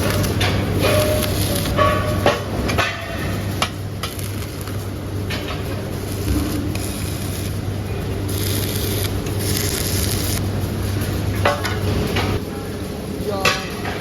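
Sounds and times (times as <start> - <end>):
workshop machinery humming: 0.0 - 14.0.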